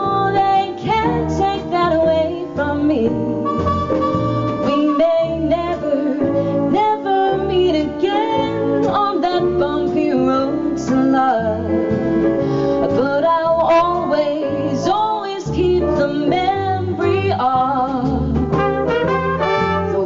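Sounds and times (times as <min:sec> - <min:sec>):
woman singing: 0:00.0 - 0:03.6, 0:04.6 - 0:12.0, 0:12.8 - 0:18.7, 0:19.8 - 0:20.0
jazz band playing swing: 0:00.0 - 0:20.0
low bass notes: 0:00.0 - 0:20.0.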